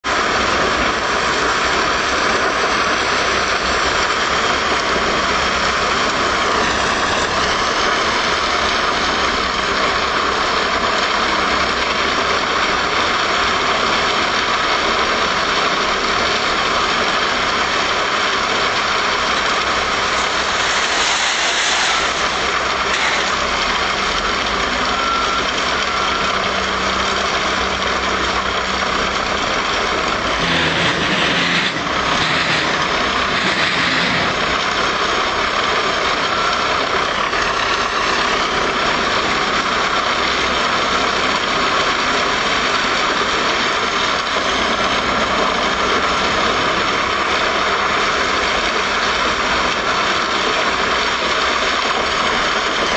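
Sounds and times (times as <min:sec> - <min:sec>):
wood chipper running: 0:00.0 - 0:52.9.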